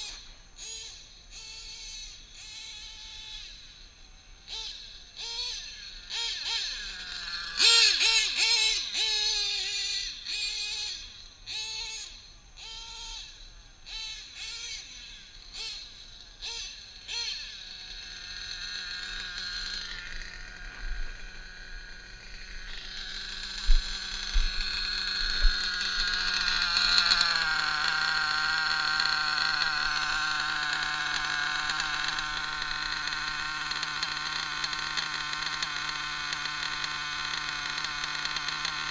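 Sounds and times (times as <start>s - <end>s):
small nitro engine revving: 0.0s - 38.9s.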